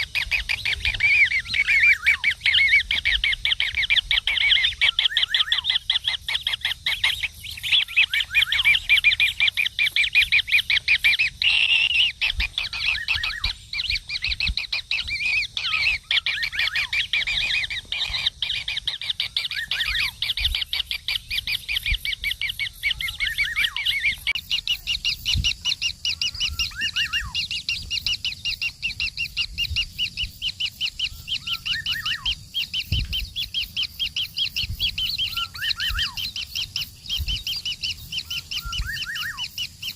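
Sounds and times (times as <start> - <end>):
nestlings chattering: 0.0 - 39.9.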